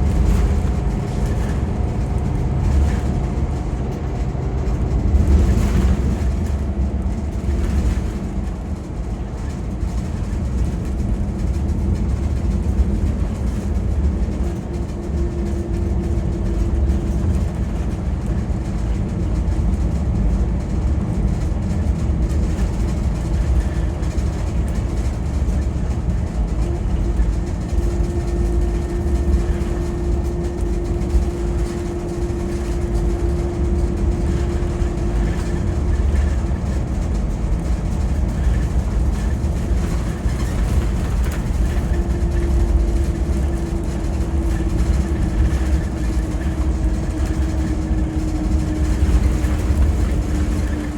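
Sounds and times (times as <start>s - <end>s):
coach engine drone and road rumble: 0.0s - 50.9s.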